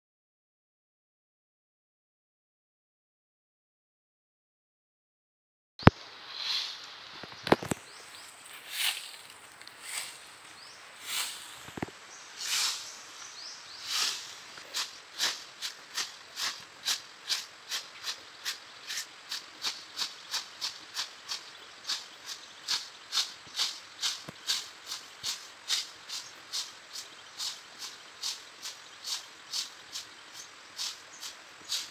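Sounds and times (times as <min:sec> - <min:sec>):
broom sweeping leaves on asphalt: 0:06.2 - 0:31.9.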